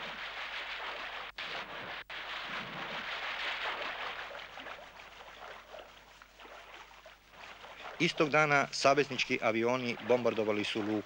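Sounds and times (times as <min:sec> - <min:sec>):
churning rushing water: 0:00.0 - 0:11.0
diver splashing into water: 0:00.0 - 0:11.0.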